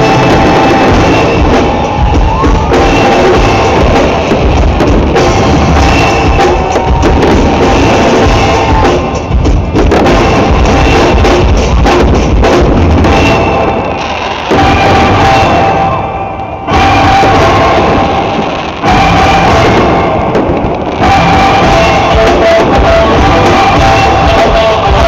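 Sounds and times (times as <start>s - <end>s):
fireworks banging and crackling: 0.0s - 25.0s
music with drum beat over loudspeakers: 0.0s - 25.0s.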